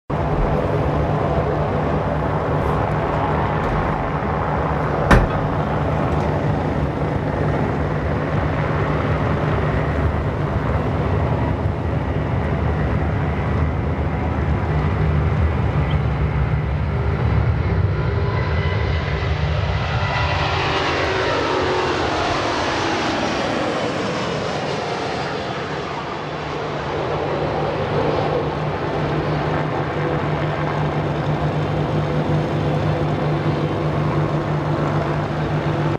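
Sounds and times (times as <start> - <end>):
jet engines roaring: 0.1 - 35.9.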